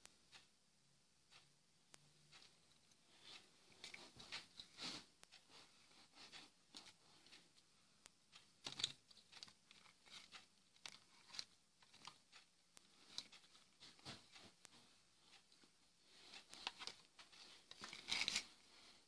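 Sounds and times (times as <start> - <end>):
rustling wiring harness: 2.3 - 7.7, 8.3 - 19.0.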